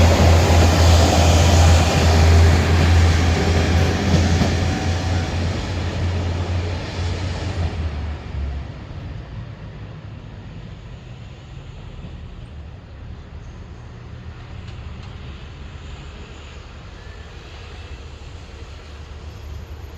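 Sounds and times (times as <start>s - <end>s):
train rumbling past: 0.0s - 19.9s.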